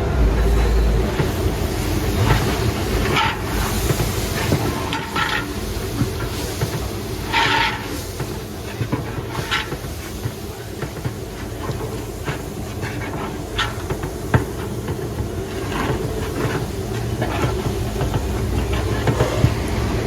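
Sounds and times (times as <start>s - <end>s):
gas burner low rumble: 0.0s - 20.0s.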